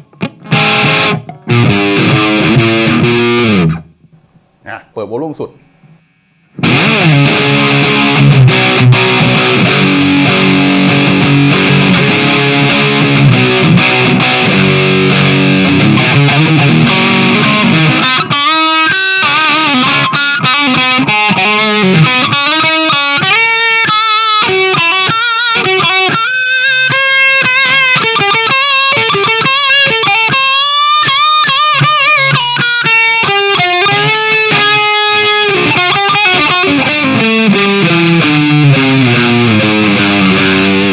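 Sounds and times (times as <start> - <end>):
distorted electric guitar: 0.0 - 4.2, 5.7 - 40.9.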